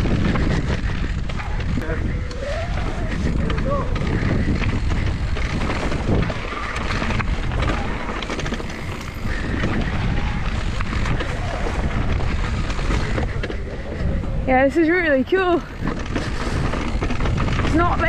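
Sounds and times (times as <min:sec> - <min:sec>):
bike rattles and clicks: 0:00.0 - 0:18.0
wind noise on microphone: 0:00.0 - 0:18.0.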